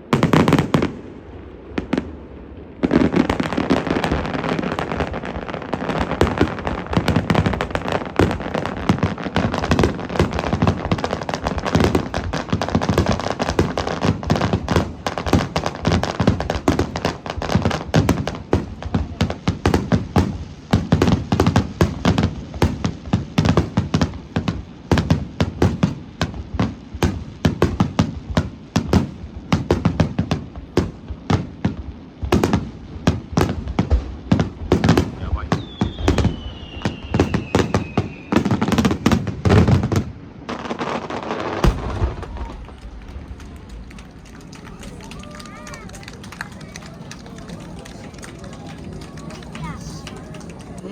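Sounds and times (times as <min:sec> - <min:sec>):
fireworks bursts and crackling bangs: 0:00.0 - 0:50.9.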